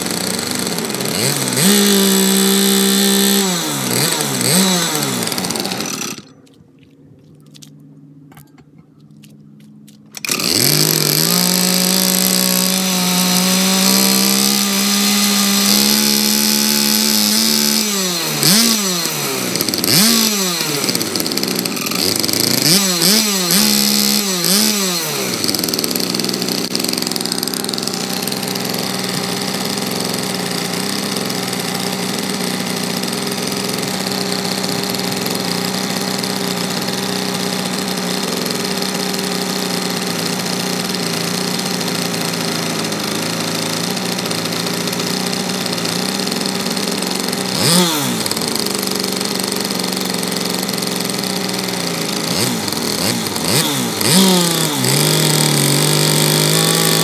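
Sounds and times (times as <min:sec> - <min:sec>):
small engine idling and revving: 0:00.0 - 0:57.0.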